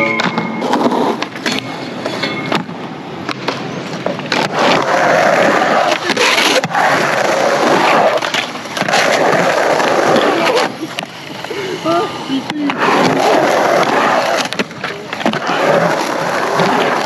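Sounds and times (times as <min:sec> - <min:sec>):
skateboard clacking on ground: 0:00.0 - 0:11.6, 0:12.3 - 0:17.0
skateboard wheels rolling on concrete: 0:00.0 - 0:17.0.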